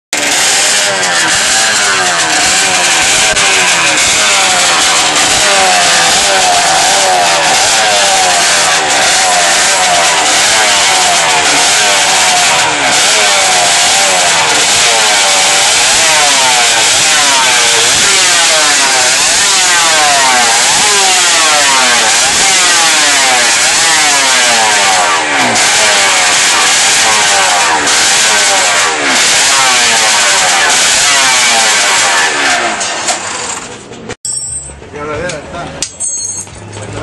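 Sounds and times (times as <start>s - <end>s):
motorcycle engine revving: 0.1s - 34.2s.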